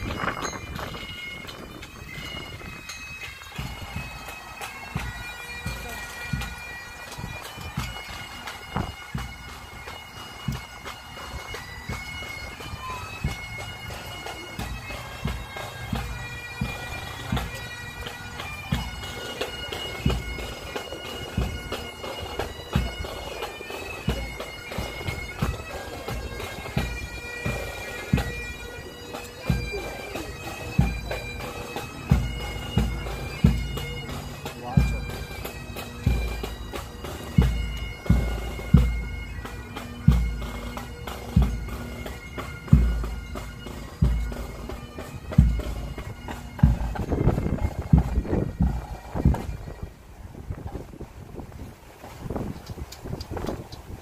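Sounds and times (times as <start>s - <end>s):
bagpipes playing slow melody: 0.0s - 50.1s.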